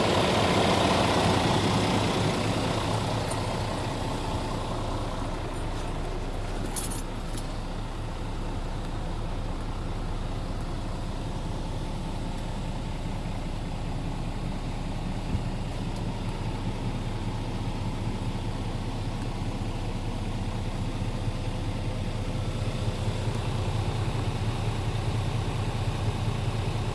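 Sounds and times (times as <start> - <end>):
truck diesel engine idling: 0.0 - 26.9.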